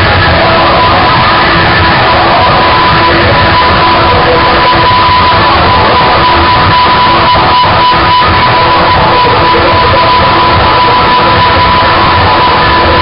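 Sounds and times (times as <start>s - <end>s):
distorted noise music: 0.0s - 13.0s
steady high tone: 0.0s - 13.0s.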